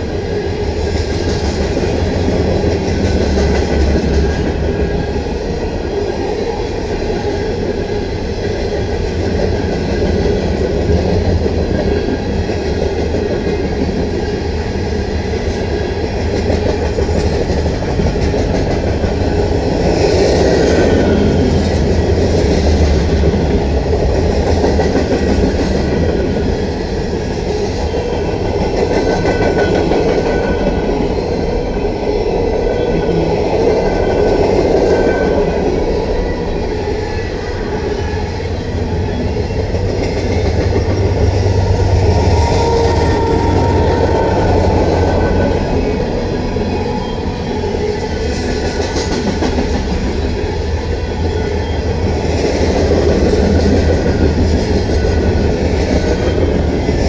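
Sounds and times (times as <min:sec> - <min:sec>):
steel wheels on rail: 0:00.0 - 0:57.0.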